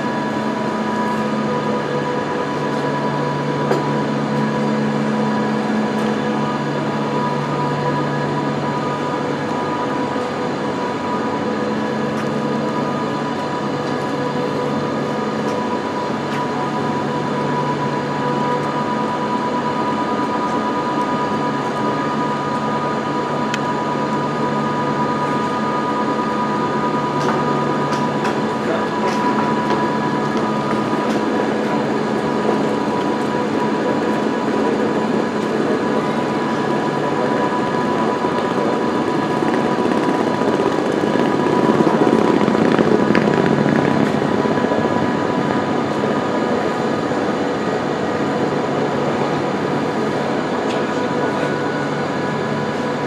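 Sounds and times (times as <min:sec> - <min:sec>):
train machinery humming: 0:00.0 - 0:53.0.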